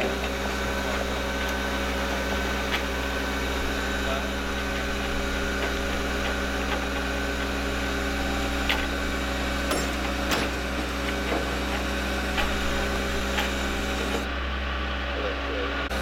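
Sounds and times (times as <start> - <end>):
engine idling hum: 0.0 - 16.0.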